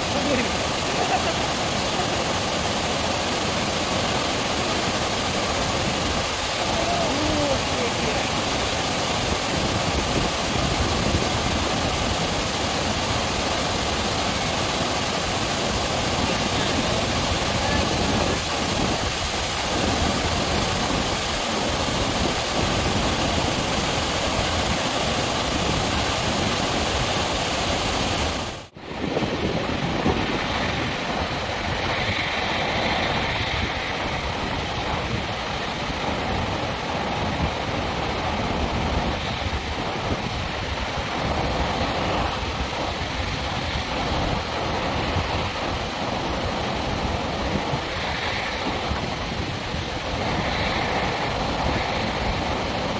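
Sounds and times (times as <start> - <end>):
water rushing down dam spillway: 0.0 - 52.9.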